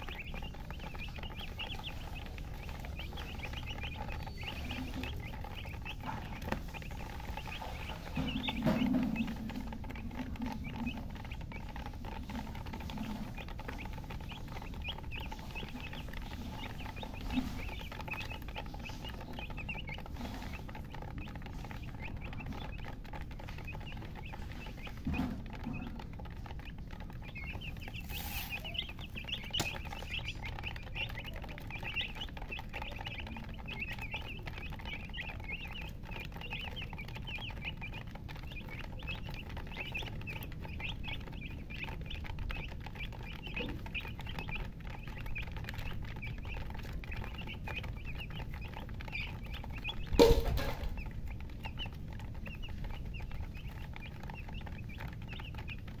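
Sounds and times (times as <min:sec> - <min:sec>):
baby chicks peeping: 0:00.0 - 0:56.0.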